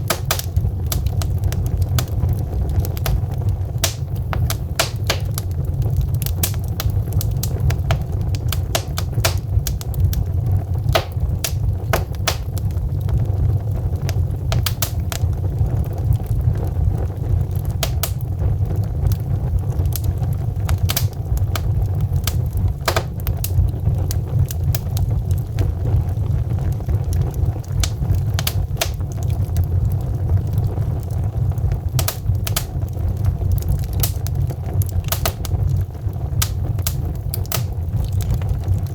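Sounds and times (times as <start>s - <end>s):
logs crackling and popping: 0.0s - 38.9s
low rumble of flames: 0.0s - 38.9s.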